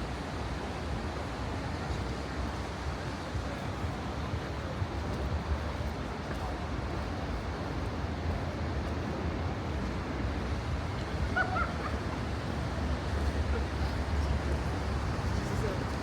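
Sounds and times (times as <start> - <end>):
low city rumble: 0.0 - 16.0.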